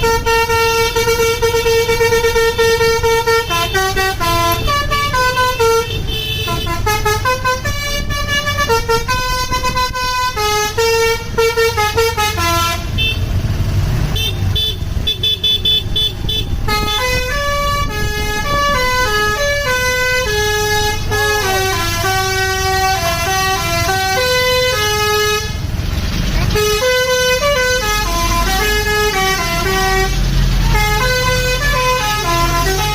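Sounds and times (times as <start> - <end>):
bus musical horn tune: 0.0 - 13.3, 14.2 - 25.7, 26.4 - 32.9
bus engine running: 0.0 - 32.9.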